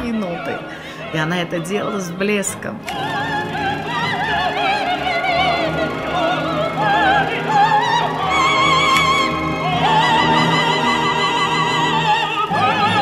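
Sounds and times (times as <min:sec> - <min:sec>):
instrumental accompaniment: 0:00.0 - 0:13.0
soprano singing opera: 0:00.0 - 0:13.0.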